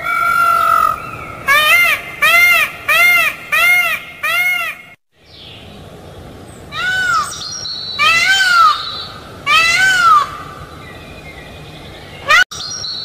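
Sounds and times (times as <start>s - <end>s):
peafowl calling: 0.0s - 5.0s, 6.7s - 12.5s.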